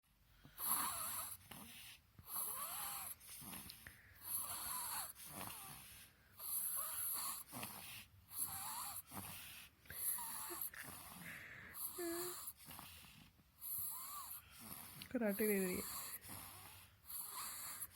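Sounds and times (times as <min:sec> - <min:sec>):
baby snoring wheezily: 0:00.6 - 0:17.9.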